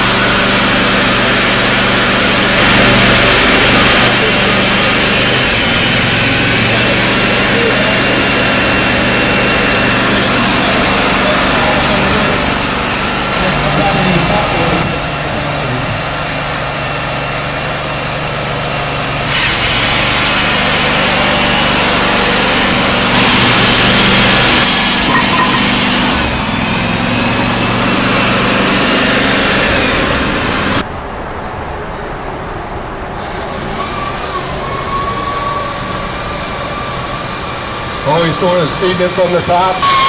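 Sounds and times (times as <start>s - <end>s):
power saw cutting iron pipe: 0.0s - 30.8s, 33.8s - 40.0s
engine running: 0.0s - 40.0s.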